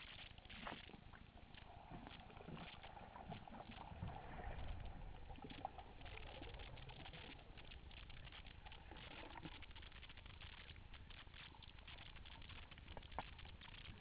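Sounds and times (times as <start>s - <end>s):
low underwater rumble: 0.0s - 14.0s
underwater crackle of clicks: 0.0s - 14.0s.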